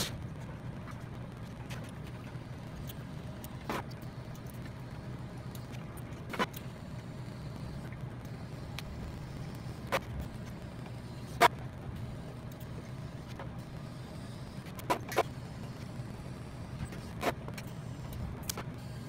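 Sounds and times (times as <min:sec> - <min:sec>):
welder humming: 0:02.3 - 0:19.0.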